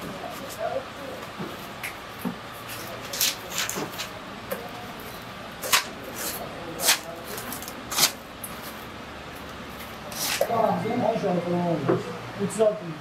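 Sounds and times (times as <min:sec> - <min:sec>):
background chatter: 0:00.0 - 0:13.0.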